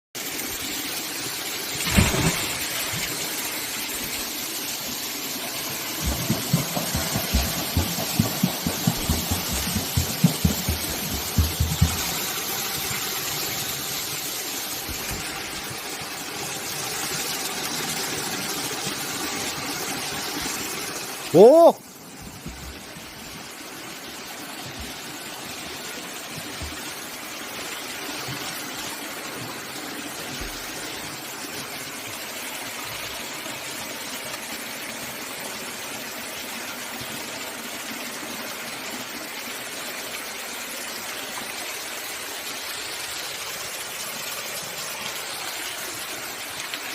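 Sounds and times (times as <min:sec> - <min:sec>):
stream rushing over rocks: 0:00.3 - 0:46.9.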